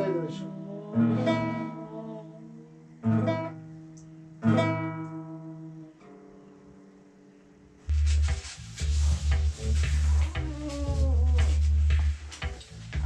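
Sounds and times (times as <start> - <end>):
acoustic guitar chords strummed: 0.0 - 7.0, 7.9 - 13.0.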